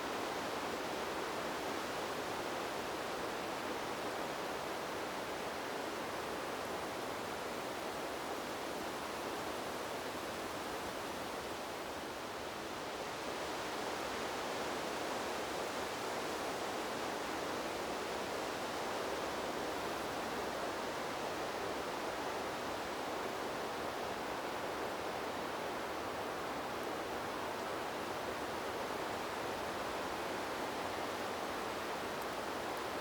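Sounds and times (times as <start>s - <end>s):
wind blowing through trees: 0.0s - 33.0s.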